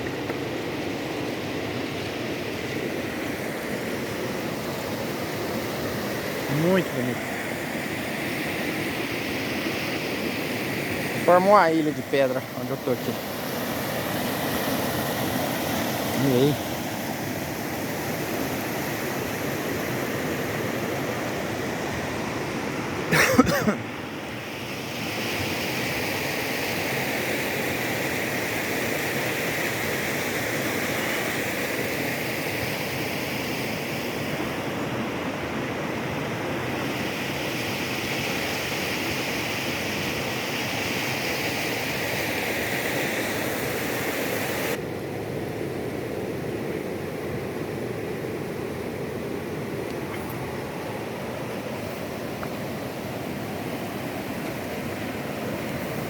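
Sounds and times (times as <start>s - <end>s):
waterfall and river rushing: 0.0s - 56.0s.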